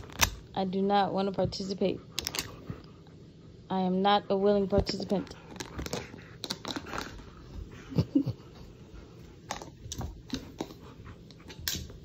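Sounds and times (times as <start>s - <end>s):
dog paws tapping floor: 0.0s - 2.9s, 4.4s - 12.0s.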